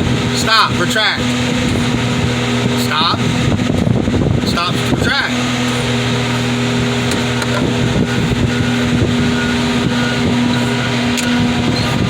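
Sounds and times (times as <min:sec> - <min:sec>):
engine and hydraulic pump humming: 0:00.0 - 0:12.0.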